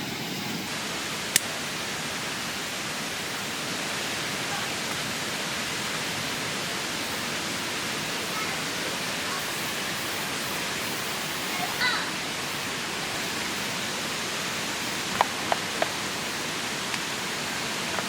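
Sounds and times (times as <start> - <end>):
stream rushing: 0.0 - 18.0.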